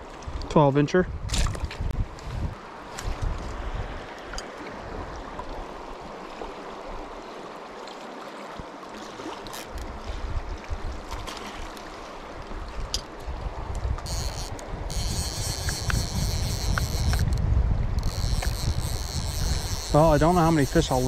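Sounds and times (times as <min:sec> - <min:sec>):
wind rumbling on microphone: 0:00.0 - 0:07.3, 0:09.4 - 0:21.0
stream rushing: 0:00.0 - 0:21.0.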